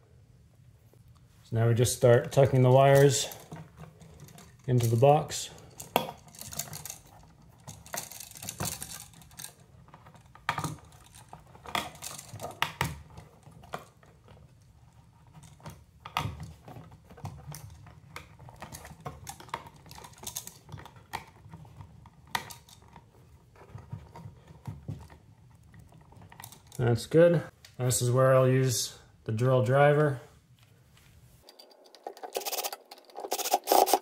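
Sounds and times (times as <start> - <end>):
wires clicking and rustling: 0.9 - 27.8, 31.0 - 34.0.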